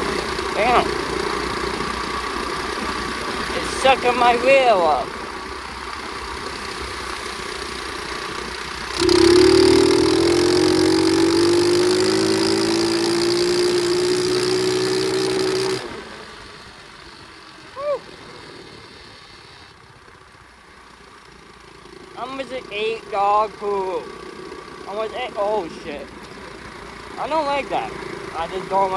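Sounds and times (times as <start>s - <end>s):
small motorcycle engine revving: 0.0s - 28.9s.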